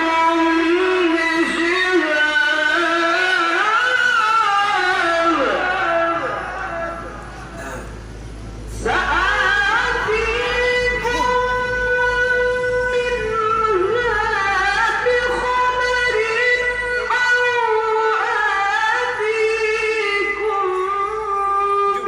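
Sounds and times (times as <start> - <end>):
man chanting in a high register: 0.0 - 22.0.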